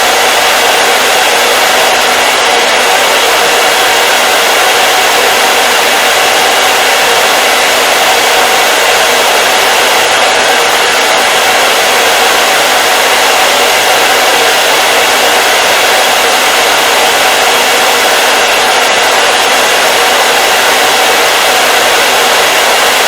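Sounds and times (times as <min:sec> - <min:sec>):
hair dryer blowing air: 0:00.0 - 0:23.0.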